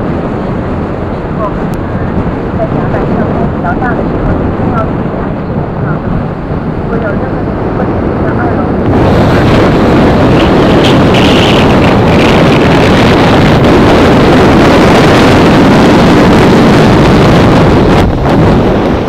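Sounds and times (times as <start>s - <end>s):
boat engine: 0.0s - 19.0s
wind buffeting microphone: 0.0s - 19.0s.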